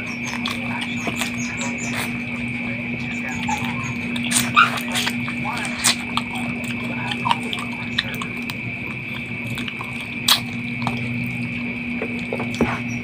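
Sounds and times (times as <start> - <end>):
lip smacks: 0.0 - 13.0
man chewing: 0.0 - 13.0
steady background hum: 0.0 - 13.0.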